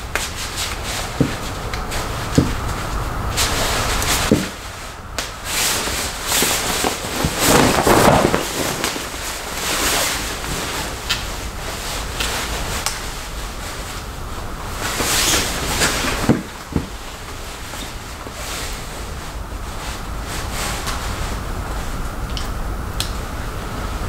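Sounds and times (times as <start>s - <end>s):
nylon cape rustling: 0.1s - 22.0s.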